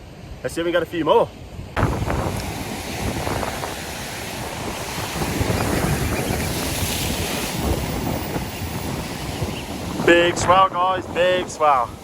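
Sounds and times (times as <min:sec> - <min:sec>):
wind buffeting microphone: 0:01.4 - 0:12.0
sea swell washing against rocks: 0:01.8 - 0:12.0.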